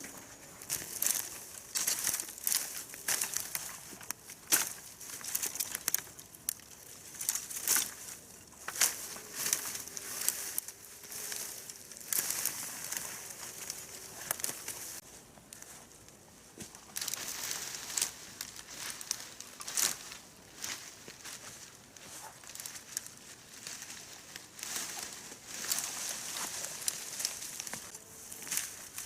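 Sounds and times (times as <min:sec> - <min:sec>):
dry leaves crunching: 0:00.0 - 0:29.0.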